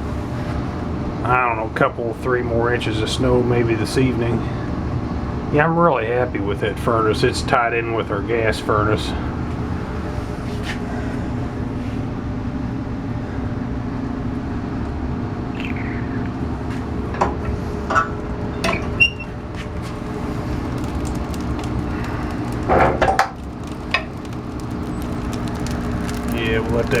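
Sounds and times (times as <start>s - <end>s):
furnace humming: 0.0s - 27.0s.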